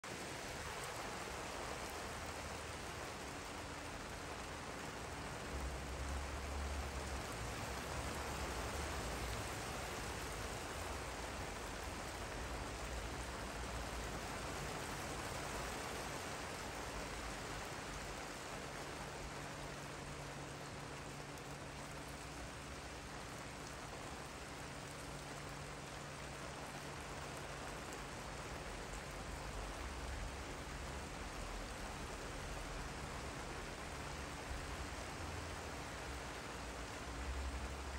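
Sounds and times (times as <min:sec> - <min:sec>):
rain on a wooden deck: 0:00.0 - 0:37.9.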